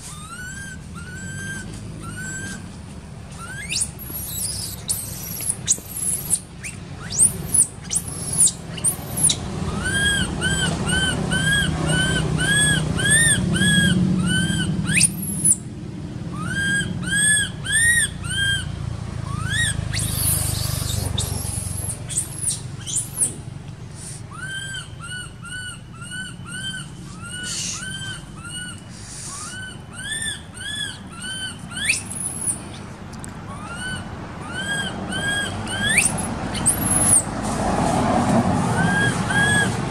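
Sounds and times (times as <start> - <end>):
baby monkey squealing: 0.0 - 15.7, 16.3 - 32.8, 33.4 - 37.4, 38.6 - 39.9.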